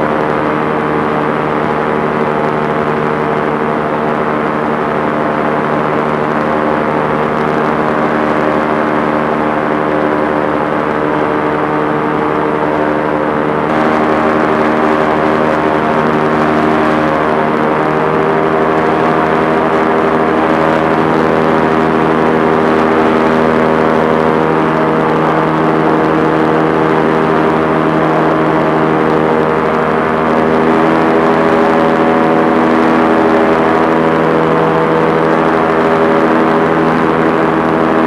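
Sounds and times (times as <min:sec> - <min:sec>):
aircraft propeller engine drone: 0:00.0 - 0:38.0.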